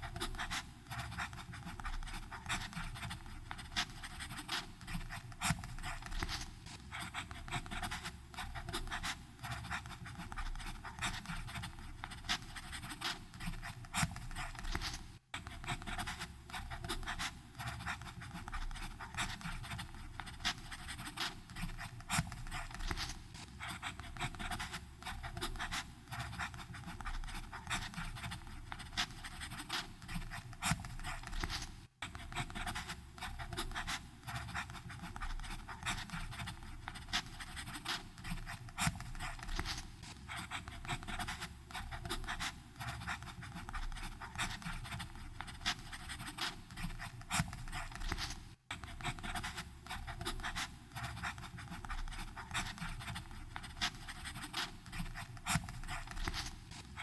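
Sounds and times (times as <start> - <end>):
pen nib scratching on paper: 0.0 - 57.0.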